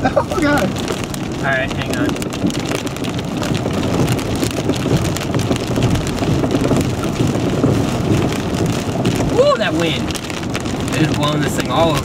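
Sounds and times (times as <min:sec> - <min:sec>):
heavy rain pelting car roof: 0:00.0 - 0:12.0
wind buffeting car: 0:00.0 - 0:12.0.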